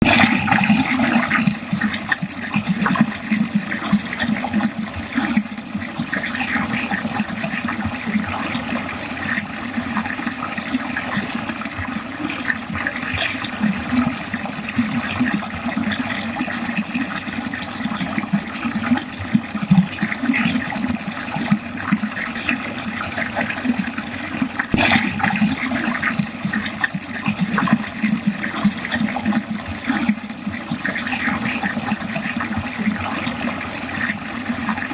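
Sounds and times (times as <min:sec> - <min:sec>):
water gurgling down a drain: 0:00.0 - 0:34.9.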